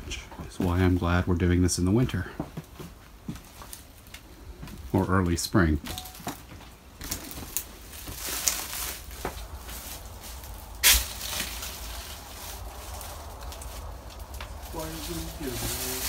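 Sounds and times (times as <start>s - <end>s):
crunches and creaks of footsteps: 0.0s - 1.3s, 2.0s - 16.0s.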